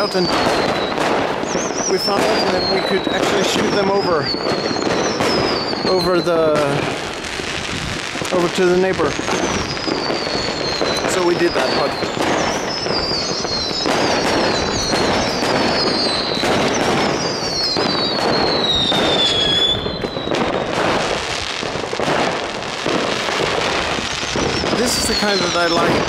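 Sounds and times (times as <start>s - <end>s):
falling firework whistles: 0.0s - 26.0s
fireworks crackling and banging: 0.0s - 26.0s.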